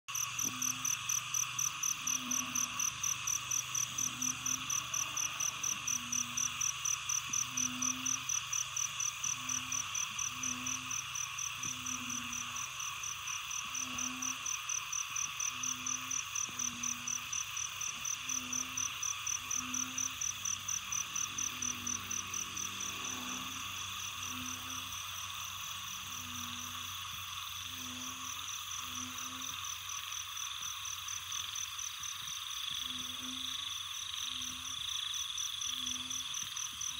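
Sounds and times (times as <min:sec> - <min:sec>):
insects buzzing: 0:00.1 - 0:36.9
insects trilling: 0:00.1 - 0:36.9
frog calling: 0:00.2 - 0:30.1.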